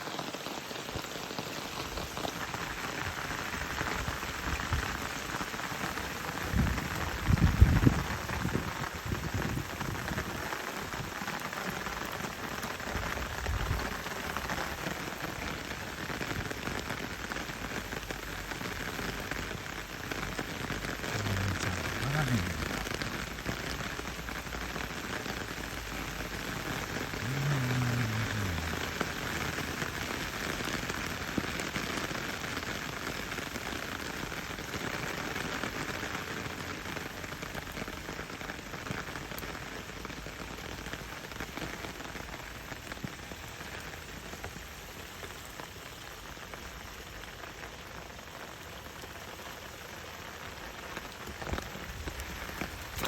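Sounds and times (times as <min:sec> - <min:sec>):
splashing rush of water: 0:00.0 - 0:53.0.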